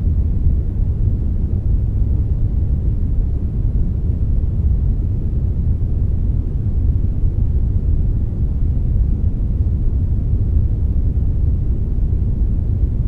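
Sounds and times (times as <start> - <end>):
deep brown noise rumble: 0.0 - 13.0.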